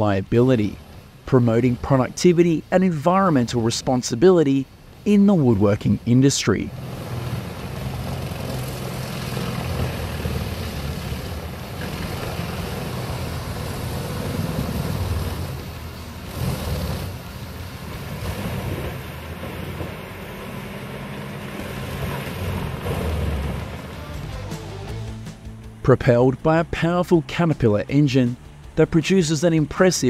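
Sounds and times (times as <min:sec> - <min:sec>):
diesel grinder drone: 0:00.0 - 0:30.0.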